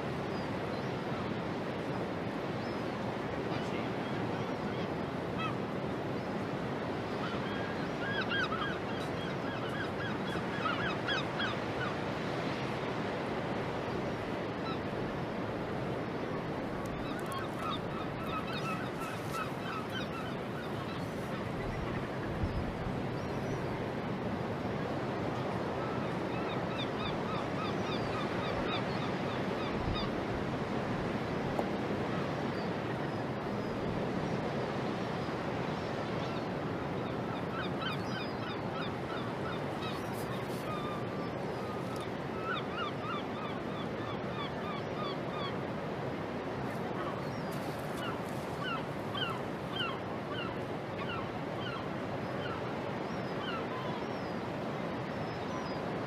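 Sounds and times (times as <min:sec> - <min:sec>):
water: 0:00.0 - 0:56.0.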